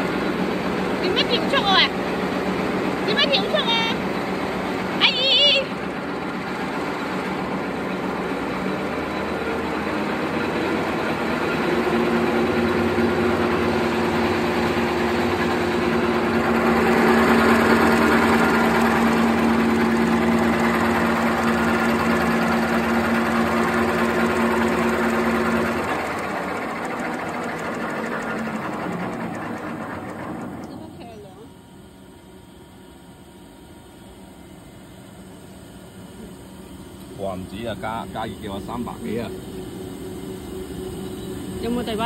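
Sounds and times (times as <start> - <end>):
steady drone: 0.0 - 31.5, 36.1 - 42.0
machine whirring and rattling: 0.0 - 42.0.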